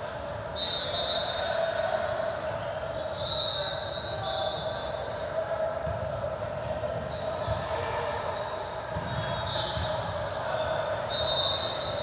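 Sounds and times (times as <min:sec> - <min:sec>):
indoor gym hum: 0:00.0 - 0:12.0.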